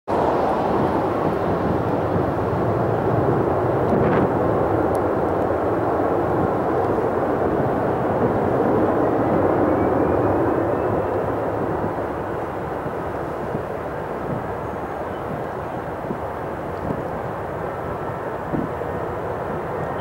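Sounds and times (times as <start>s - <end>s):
distant jet engines at takeoff: 0.1s - 20.0s.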